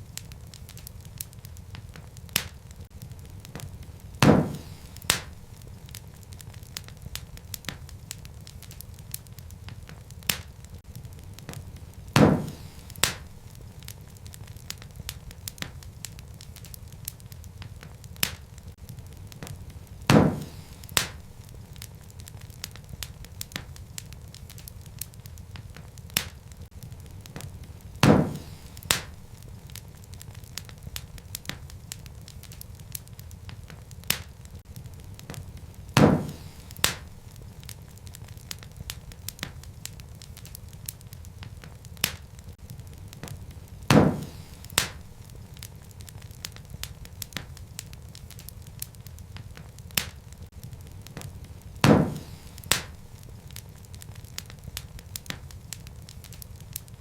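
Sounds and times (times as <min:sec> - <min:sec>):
burning logs rumbling: 0:00.0 - 0:57.0
fire popping and snapping: 0:00.0 - 0:57.0.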